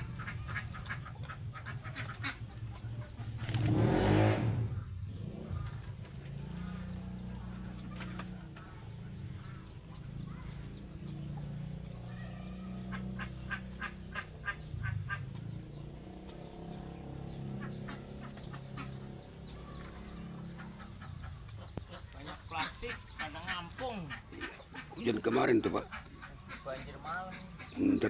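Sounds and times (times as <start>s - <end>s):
chickens clucking: 0.0s - 4.0s, 4.6s - 28.0s.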